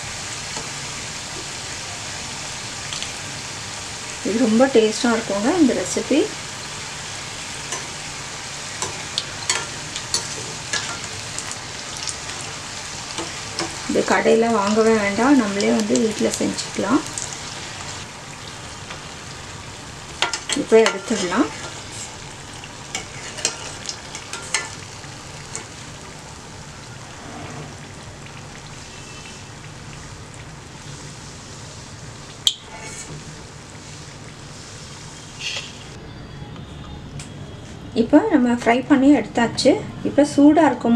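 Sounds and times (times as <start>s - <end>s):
chips sizzling in oil: 0.0s - 36.0s.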